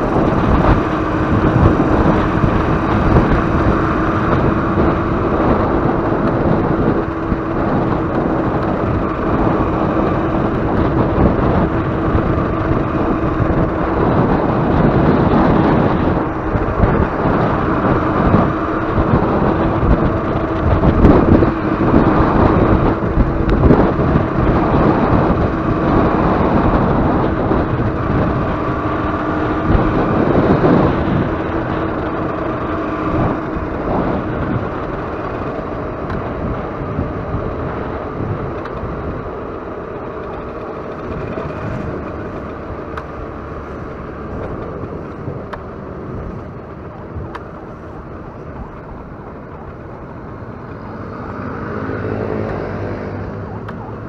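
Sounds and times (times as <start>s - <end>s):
motorcycle engine running: 0.0s - 54.0s
traffic: 0.0s - 54.0s
wind and road noise: 0.0s - 54.0s.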